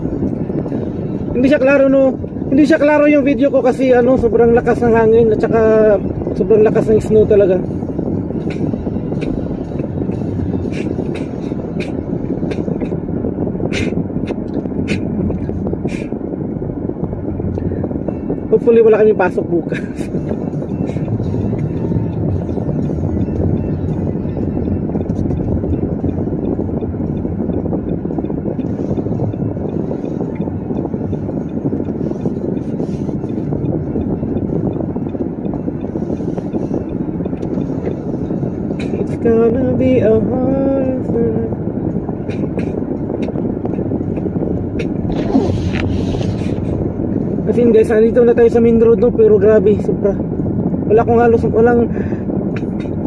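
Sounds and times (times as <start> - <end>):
car cabin rumble: 0.0 - 53.0.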